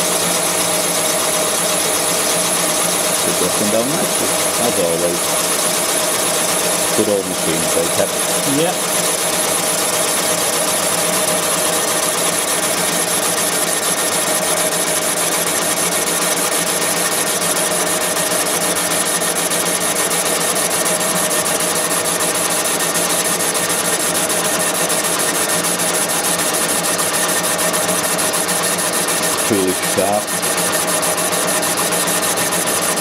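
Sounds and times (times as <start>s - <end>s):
boring bar whirring and chattering: 0.0s - 33.0s.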